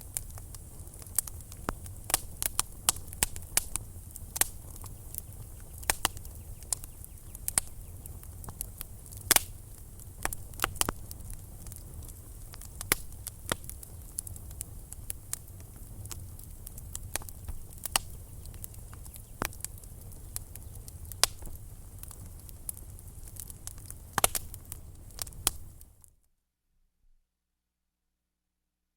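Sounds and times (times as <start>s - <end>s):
wood fire crackling and popping: 0.0s - 26.1s.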